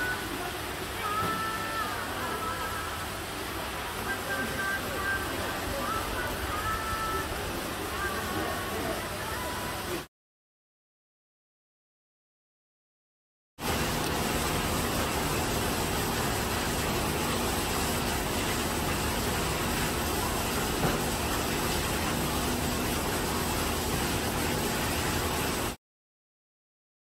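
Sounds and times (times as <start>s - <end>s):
mechanical hum and hiss: 0.0s - 10.1s, 13.6s - 25.8s.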